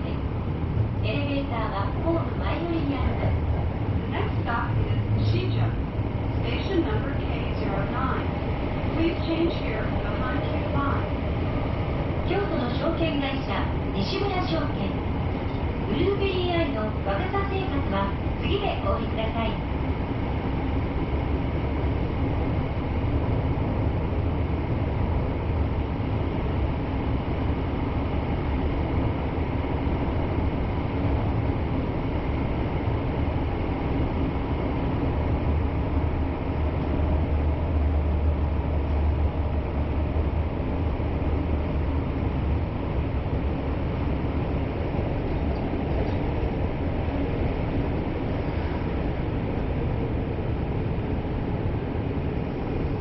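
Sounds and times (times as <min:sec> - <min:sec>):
subway train rumbling in tunnel: 0:00.0 - 0:53.0.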